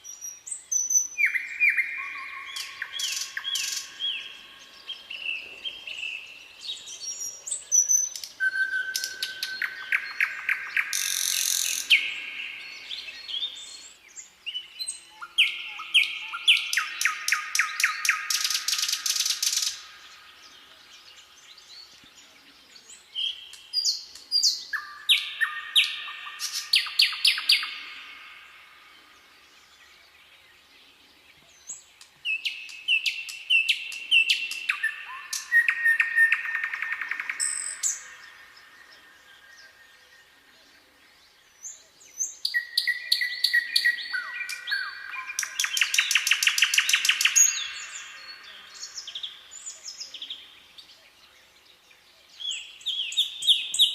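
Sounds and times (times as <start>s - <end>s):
songbirds trilling and chirping: 0.0s - 53.9s.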